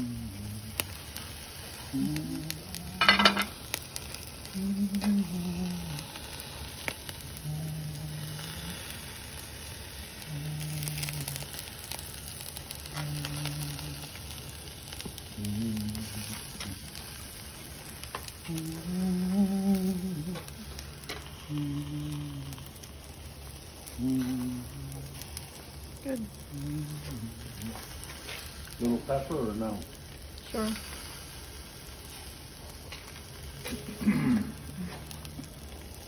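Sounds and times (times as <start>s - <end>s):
person humming low notes: 0.0s - 28.9s, 33.0s - 35.9s
meat sizzling over charcoal: 0.0s - 36.0s
pops and crackles: 0.0s - 36.0s.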